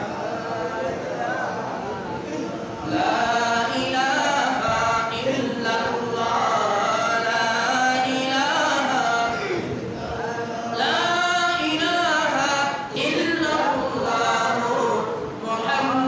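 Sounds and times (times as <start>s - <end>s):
man chanting into a microphone: 2.8s - 16.0s.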